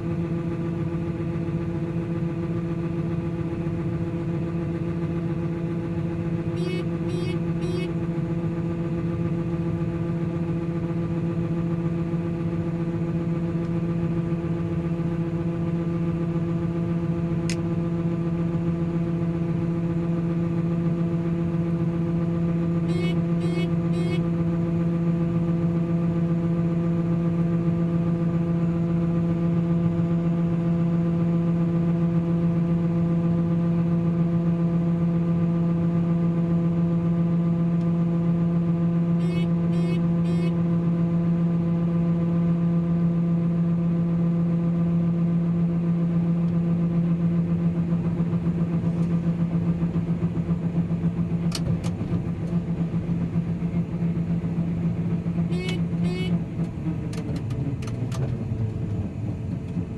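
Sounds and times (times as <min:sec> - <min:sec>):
harvester engine and auger hum: 0:00.0 - 0:59.9.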